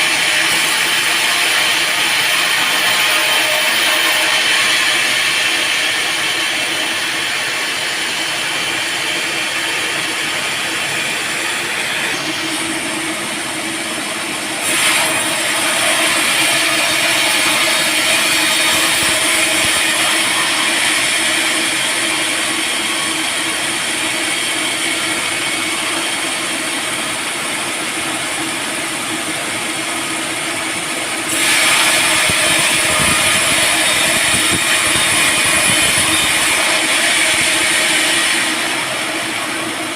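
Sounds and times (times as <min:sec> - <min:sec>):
band saw cutting wood: 0:00.0 - 0:27.4, 0:31.2 - 0:39.9.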